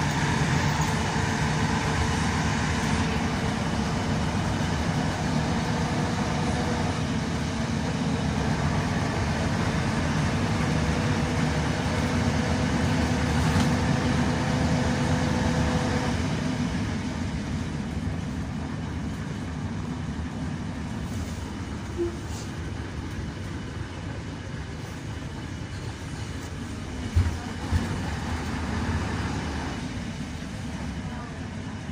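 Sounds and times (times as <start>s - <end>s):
bus engine and road noise: 0.0s - 31.9s.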